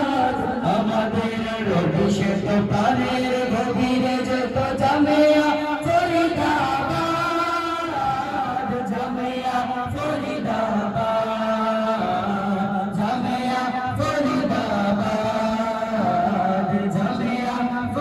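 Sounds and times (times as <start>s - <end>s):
men singing together: 0.0s - 18.0s.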